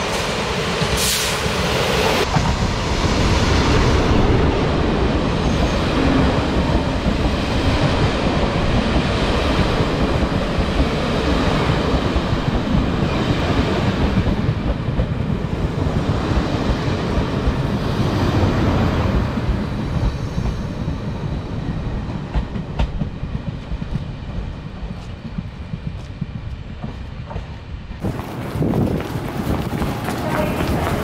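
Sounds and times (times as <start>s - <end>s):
train coaches rolling on track: 0.0s - 31.0s.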